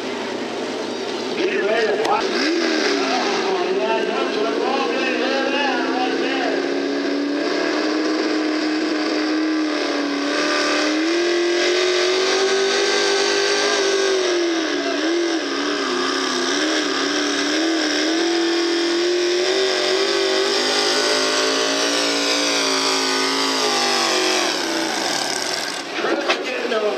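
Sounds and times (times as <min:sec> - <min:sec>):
engine revving under load: 0:01.2 - 0:26.0.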